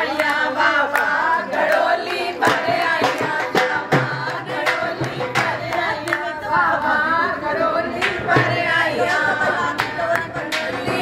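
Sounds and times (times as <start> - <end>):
hand clapping: 0.0 - 7.0, 9.1 - 11.0
women singing folk song: 0.0 - 11.0
drum beats: 0.3 - 7.0, 7.8 - 11.0.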